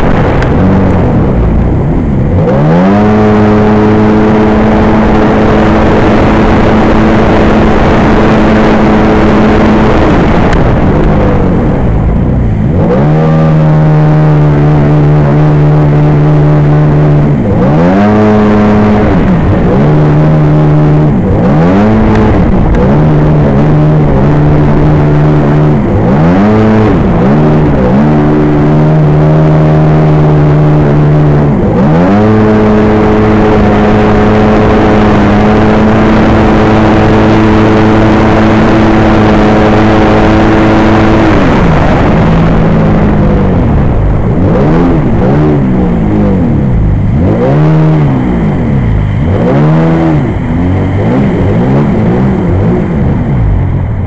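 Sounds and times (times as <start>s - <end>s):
watercraft engine revving: 0.0s - 54.0s.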